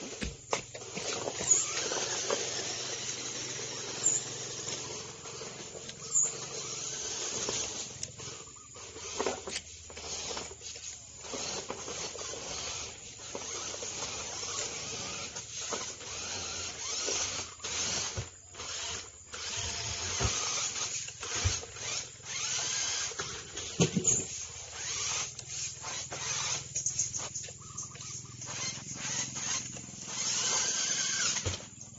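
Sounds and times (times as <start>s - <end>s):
small electric motors whining: 0.0s - 31.9s
tyres scrabbling on dirt: 0.0s - 31.9s.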